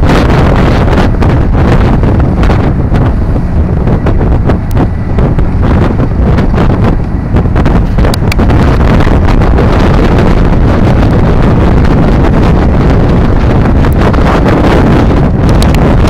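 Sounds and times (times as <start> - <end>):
churning water wake: 0.0 - 16.0
low ship rumble: 0.0 - 16.0
wind buffeting microphone: 0.0 - 16.0.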